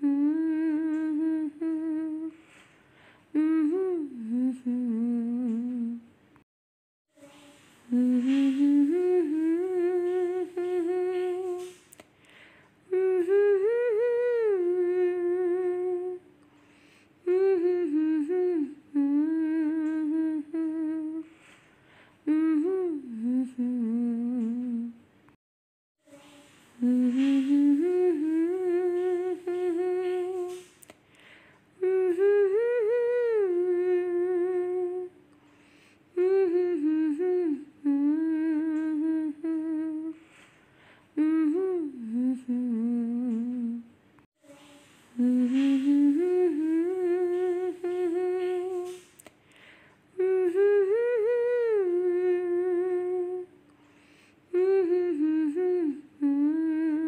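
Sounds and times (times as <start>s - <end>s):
person humming slow melody: 0.0s - 2.6s, 3.3s - 6.1s, 7.2s - 11.8s, 12.9s - 16.3s, 17.2s - 21.4s, 22.3s - 25.0s, 26.8s - 30.8s, 31.8s - 35.2s, 36.1s - 40.3s, 41.2s - 49.1s, 50.2s - 53.6s, 54.5s - 57.0s.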